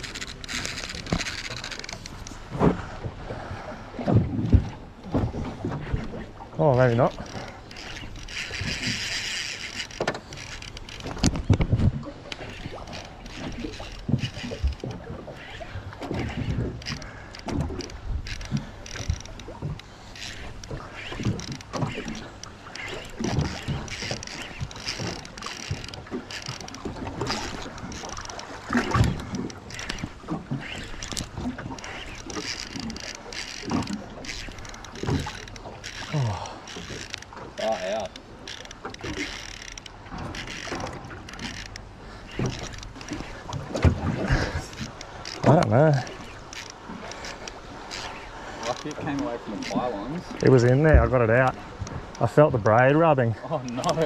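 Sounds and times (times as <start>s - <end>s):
knocks and thumps on boat: 0.0s - 54.0s
water noise: 0.0s - 54.0s
wind: 0.0s - 54.0s.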